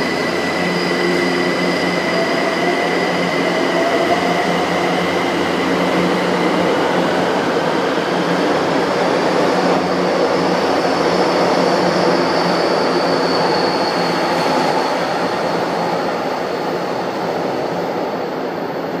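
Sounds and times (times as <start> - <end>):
metro train pulling out: 0.0 - 19.0.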